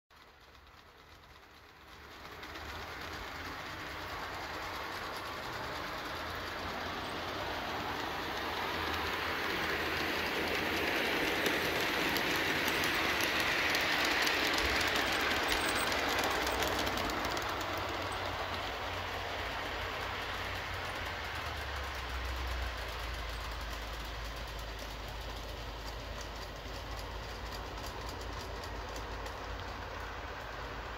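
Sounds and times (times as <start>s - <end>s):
metal wheels rolling on track: 0.1s - 30.9s
model train motors whirring: 0.2s - 30.9s.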